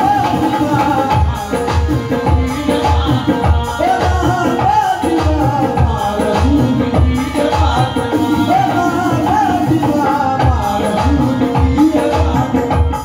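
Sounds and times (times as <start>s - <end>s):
hand drums beating: 0.0s - 13.0s
harmonium: 0.0s - 13.0s
male voices singing in chorus: 0.0s - 13.0s.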